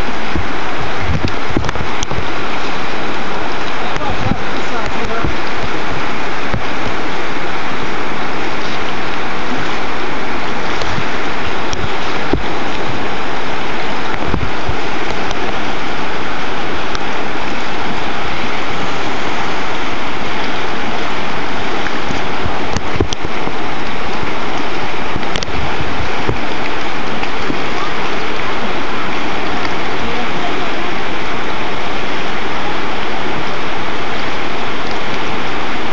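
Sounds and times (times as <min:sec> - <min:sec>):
river whitewater rushing: 0:00.0 - 0:35.9.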